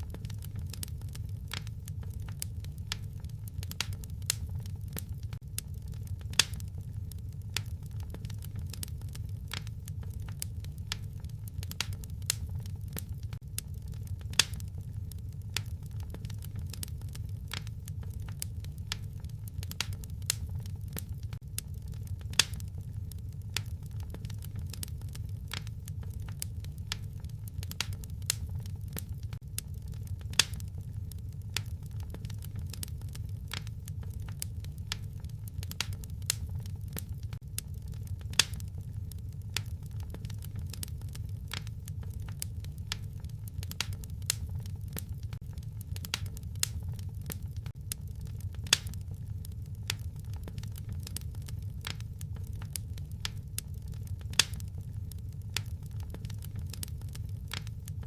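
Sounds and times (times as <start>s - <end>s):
fire crackling and popping: 0.0s - 58.0s
wood fire rumbling: 0.0s - 58.0s.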